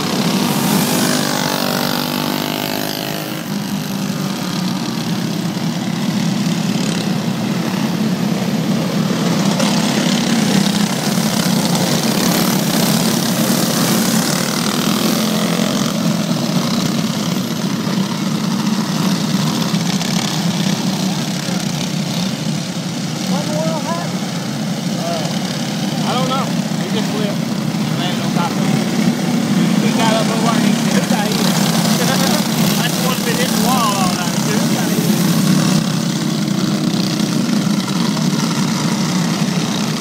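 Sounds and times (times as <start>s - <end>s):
racing kart engines droning: 0.0s - 40.0s.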